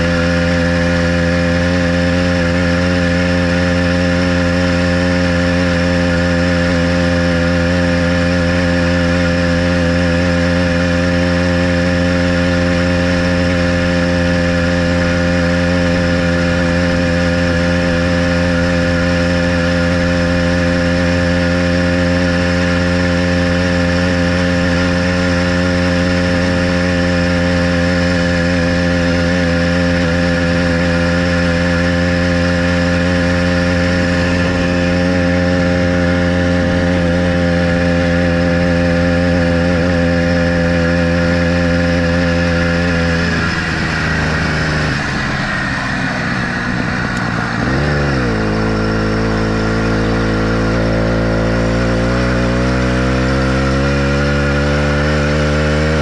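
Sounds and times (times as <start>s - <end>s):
small bicycle engine running: 0.0s - 56.0s.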